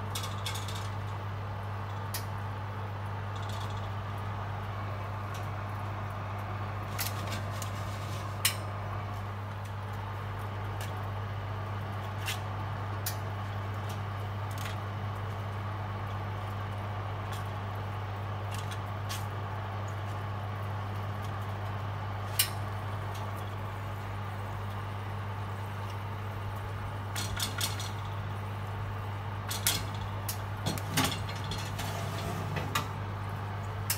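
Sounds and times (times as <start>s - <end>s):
fan oven humming: 0.0s - 33.9s.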